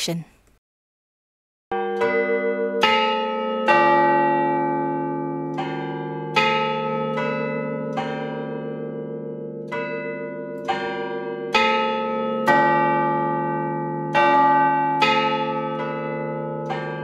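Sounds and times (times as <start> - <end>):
clock tower bells chiming: 1.7 - 17.0.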